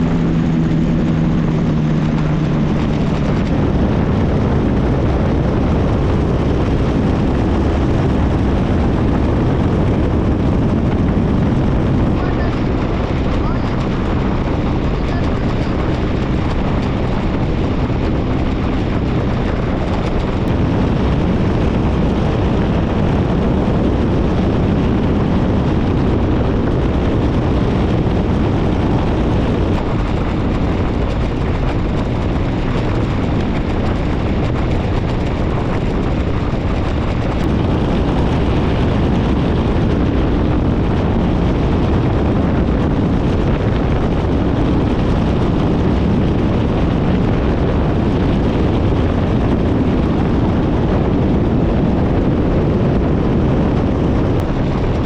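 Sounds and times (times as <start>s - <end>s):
paramotor engine droning: 0.0s - 55.0s.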